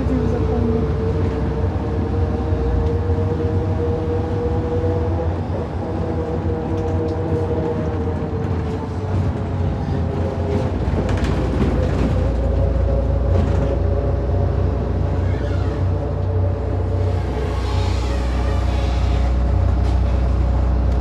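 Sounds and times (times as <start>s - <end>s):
bus engine whine and rumble: 0.0s - 21.0s.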